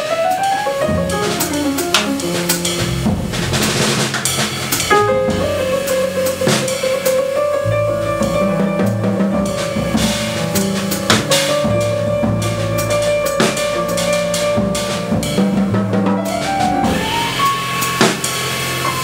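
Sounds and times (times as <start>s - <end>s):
double bass notes: 0.0s - 19.0s
jazz drum kit: 0.0s - 19.0s.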